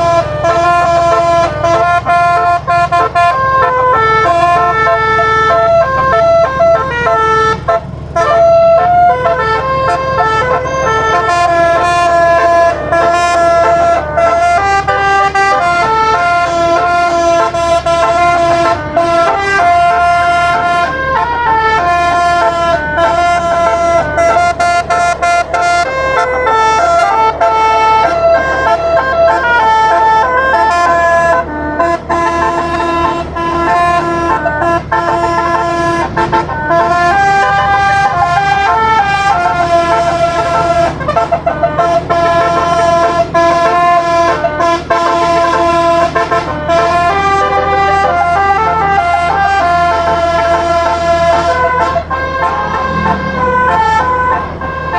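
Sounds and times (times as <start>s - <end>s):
air horn playing a melody: 0.0s - 54.9s.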